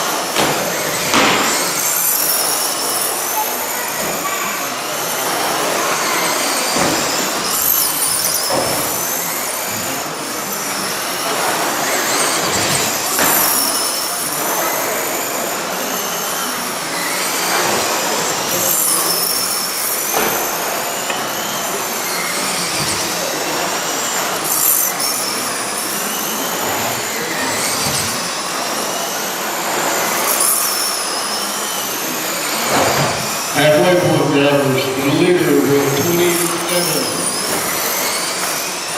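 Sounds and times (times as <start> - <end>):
toy truck motors whining: 0.0 - 34.1, 35.5 - 38.9.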